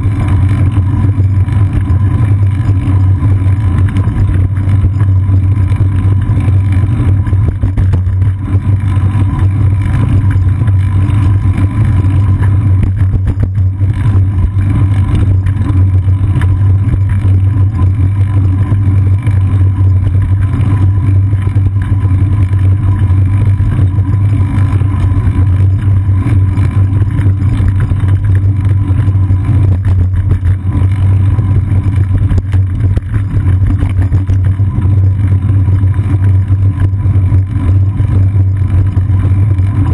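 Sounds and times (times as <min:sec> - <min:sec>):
wind buffeting and bike vibration: 0:00.0 - 0:39.9.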